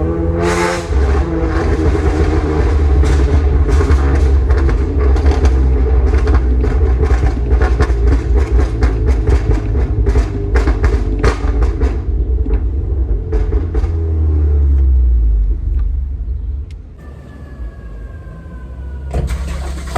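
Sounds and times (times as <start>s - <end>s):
car engine deep rumble: 0.0s - 19.9s.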